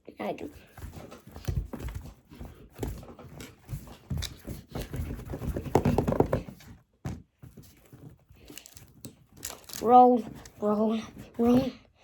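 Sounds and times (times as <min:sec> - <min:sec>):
hands knocking and rustling things: 0:00.6 - 0:10.6.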